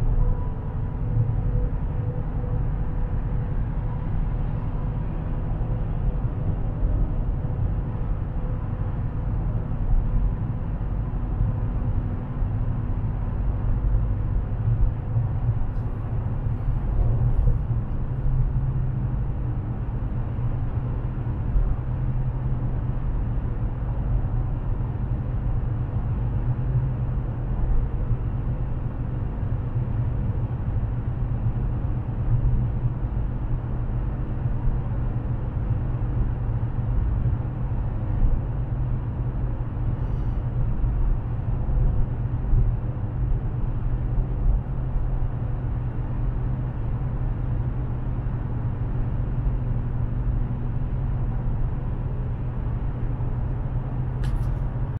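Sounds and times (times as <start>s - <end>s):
car cabin engine and tyre drone: 0.0s - 54.9s.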